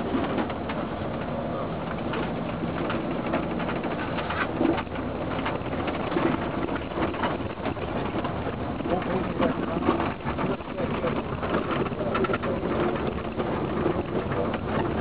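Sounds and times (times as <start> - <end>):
low engine hum: 0.0 - 15.0
small rattles: 0.0 - 15.0
vehicle rumble from inside: 0.0 - 15.0.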